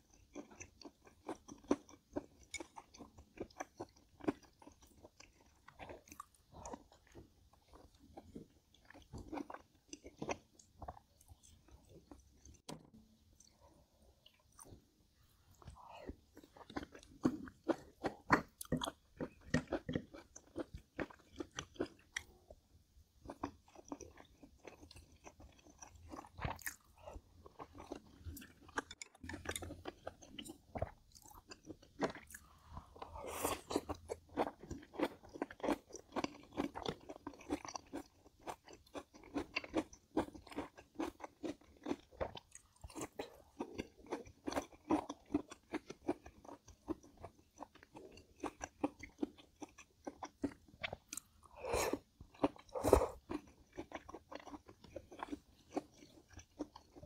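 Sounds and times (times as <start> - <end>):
chewing crunchy food: 0.0 - 22.6, 23.2 - 57.0.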